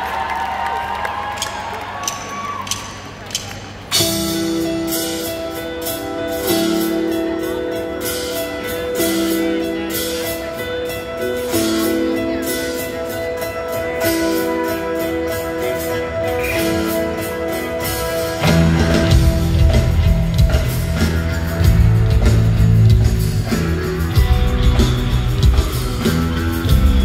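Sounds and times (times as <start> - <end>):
drums and cymbals: 2.0 - 27.0
guitar and keyboard chords: 3.8 - 27.0.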